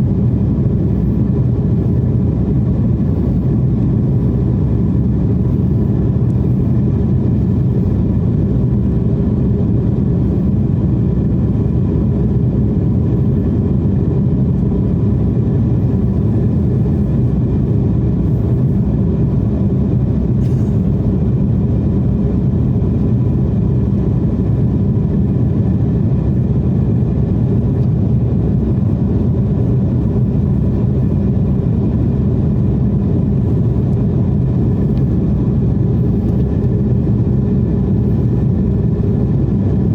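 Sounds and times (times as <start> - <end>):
faint steady hum: 0.0 - 39.9
jet engine cabin roar: 0.0 - 39.9.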